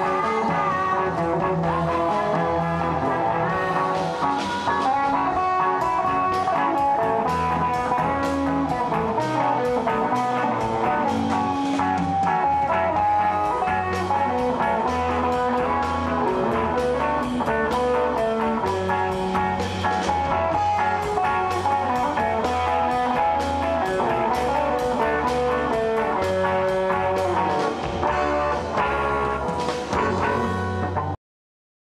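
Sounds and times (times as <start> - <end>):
band playing guitar-led song: 0.0 - 31.2.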